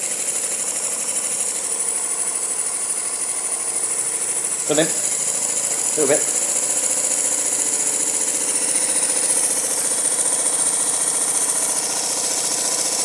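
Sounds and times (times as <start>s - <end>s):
engine running at speed: 0.0s - 13.0s.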